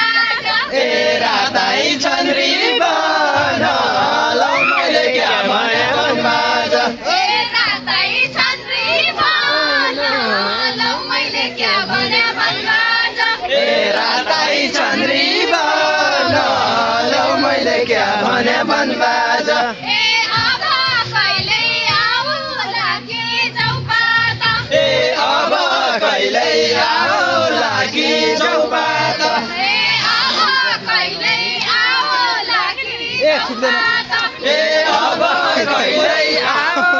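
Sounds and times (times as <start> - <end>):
voices singing in chorus: 0.0 - 36.9.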